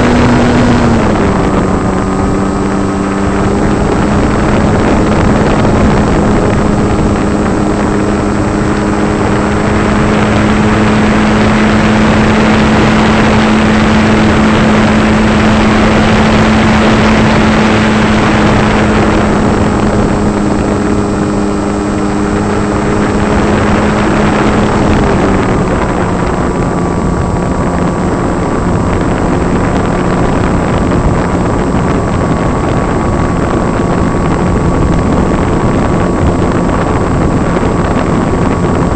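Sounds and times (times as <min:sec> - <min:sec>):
electric motor and propeller buzzing: 0:00.0 - 0:38.9
rush of air: 0:00.0 - 0:38.9.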